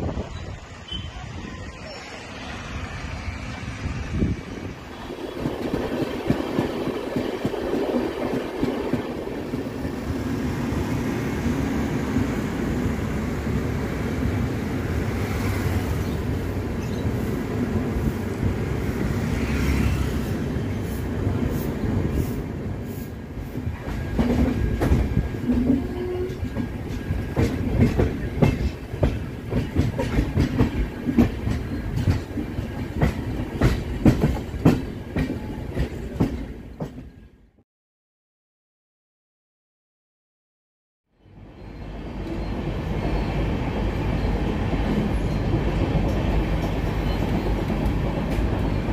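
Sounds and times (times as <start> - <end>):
train wheels rumbling on rail: 0.0 - 37.4, 41.4 - 48.9.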